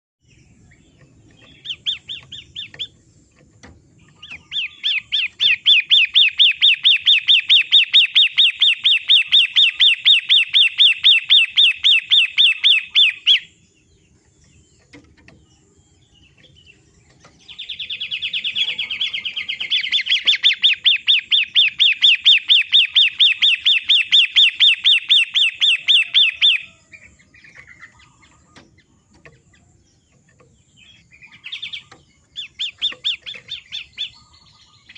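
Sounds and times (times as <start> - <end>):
bird rapid rising chirps: 0.2 - 34.9.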